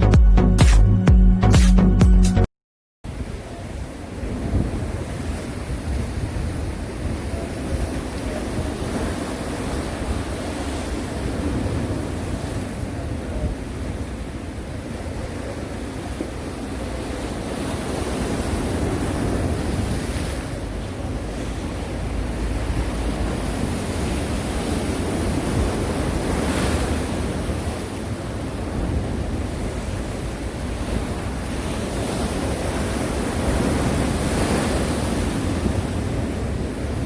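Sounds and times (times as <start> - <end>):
sea waves breaking on shore: 3.1 - 37.0.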